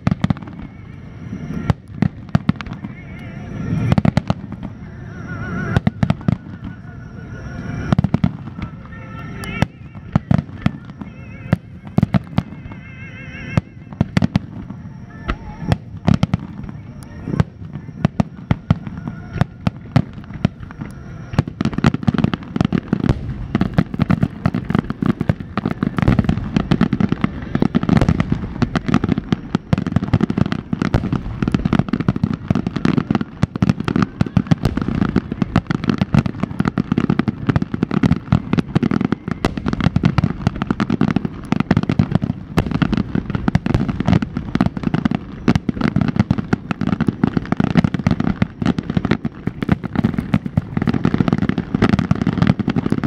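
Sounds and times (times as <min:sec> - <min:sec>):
firework shells bursting: 0:07.6 - 0:53.0.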